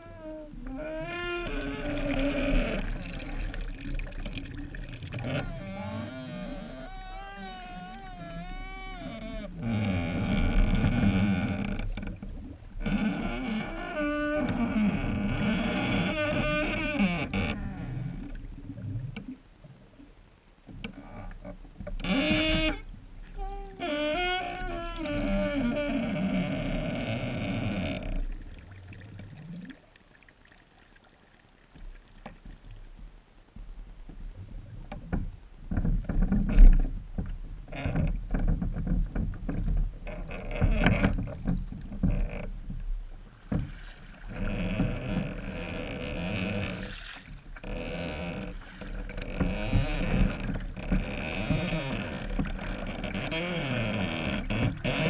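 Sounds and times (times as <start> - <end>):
paddle strokes in water: 0.0 - 55.0.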